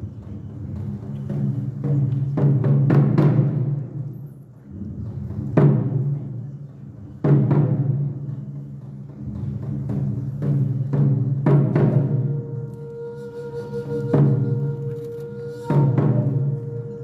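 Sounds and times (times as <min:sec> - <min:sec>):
taiko drum strikes: 0:00.0 - 0:14.8, 0:15.4 - 0:17.0.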